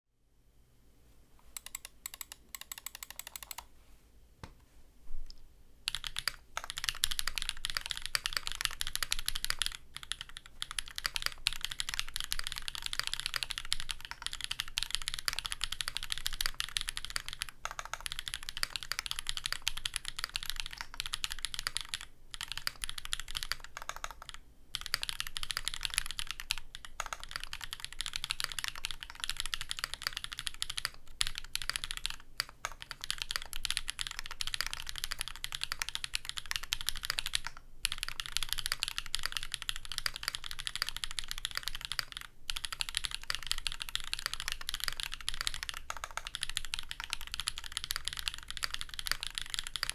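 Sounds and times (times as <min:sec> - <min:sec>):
typing on mechanical keyboard: 0:01.5 - 0:03.7, 0:05.9 - 0:49.9.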